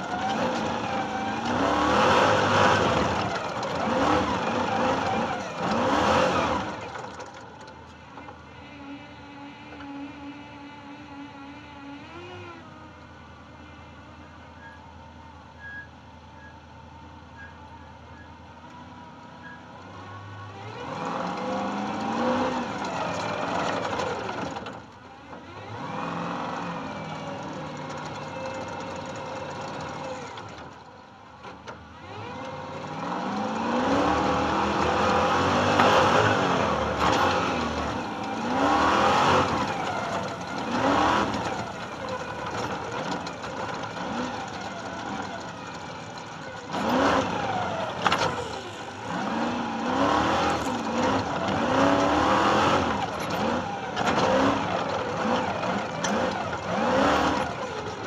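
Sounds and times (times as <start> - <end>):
truck engine revving: 0.0 - 12.7, 17.4 - 30.7, 31.4 - 58.0.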